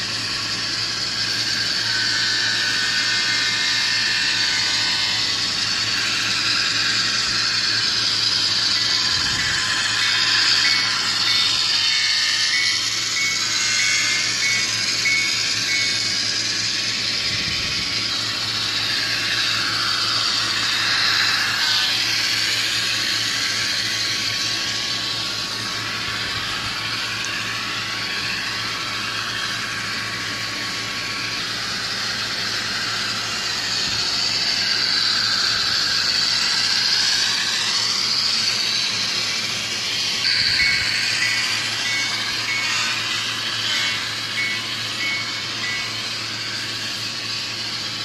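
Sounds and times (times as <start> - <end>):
hissy diesel engine sound from speaker: 0.0 - 48.0
model train running on track: 0.0 - 48.0.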